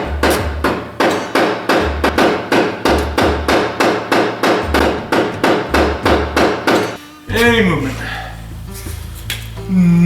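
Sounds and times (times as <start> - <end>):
hammer blows: 0.0 - 8.6.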